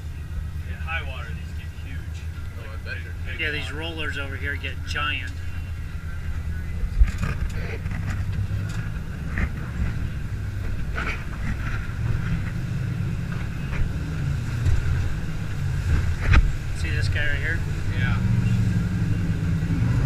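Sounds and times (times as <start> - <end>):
jet boat engine rumble and whine: 0.0 - 20.0.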